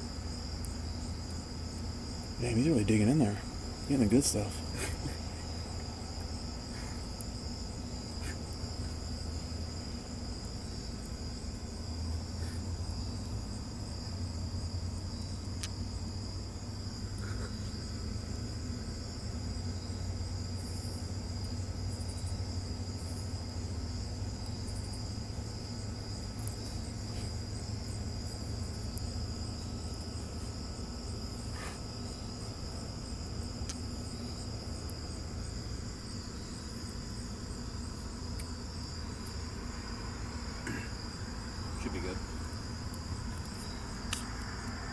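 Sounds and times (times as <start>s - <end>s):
crickets trilling: 0.0s - 44.9s
low steady hum: 0.0s - 44.9s.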